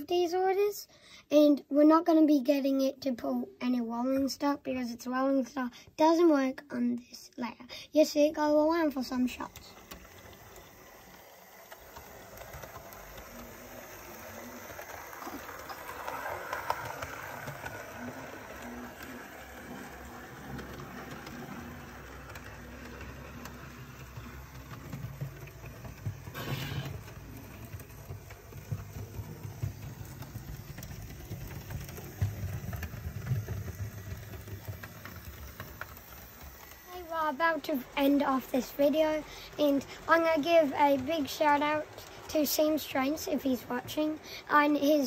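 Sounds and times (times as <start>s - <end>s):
wheels clicking on rails: 0.0s - 45.0s
model train motor hum: 8.0s - 45.0s.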